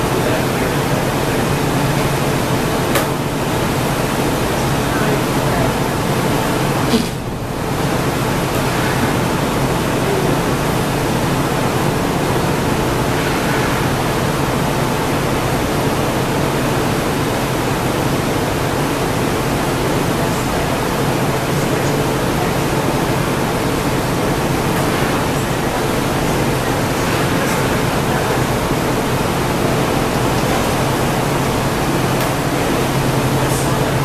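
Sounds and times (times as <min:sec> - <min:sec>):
furnace burners roaring: 0:00.0 - 0:34.0
ventilation fans: 0:00.0 - 0:34.0.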